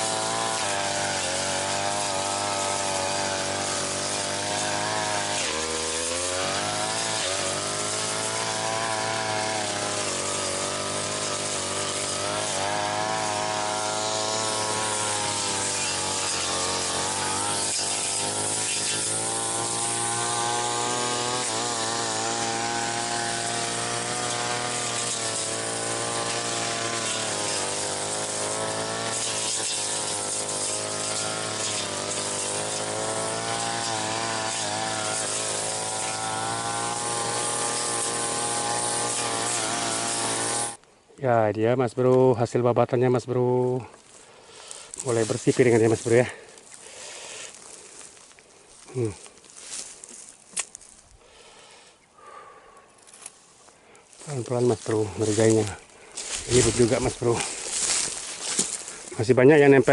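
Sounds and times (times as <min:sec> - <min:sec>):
brush cutter engine cutting weeds: 0:00.0 - 0:42.6, 0:43.2 - 0:59.9.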